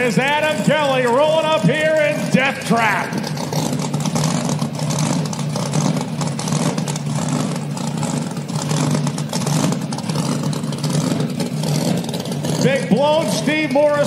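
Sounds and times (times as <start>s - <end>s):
supercharged engine running hard: 0.0s - 14.0s
tyres spinning in a burnout: 0.0s - 14.0s.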